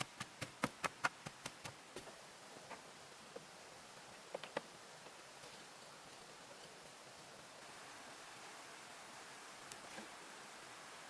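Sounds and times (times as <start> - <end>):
faint steady background hiss: 0.0 - 11.0.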